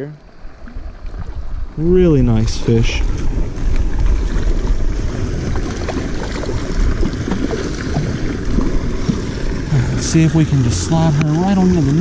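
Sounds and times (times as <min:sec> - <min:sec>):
flowing creek water: 0:00.0 - 0:12.0
wind rumble on microphone: 0:00.3 - 0:12.0.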